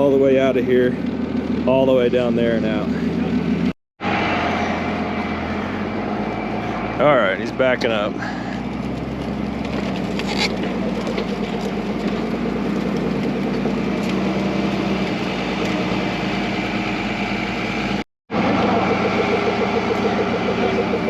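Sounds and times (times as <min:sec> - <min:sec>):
snowcat engine running: 0:00.0 - 0:21.0.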